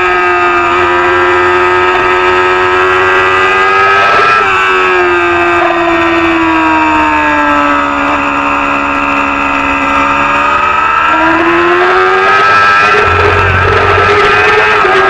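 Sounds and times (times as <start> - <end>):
race motorcycle engine revving: 0.0 - 15.0.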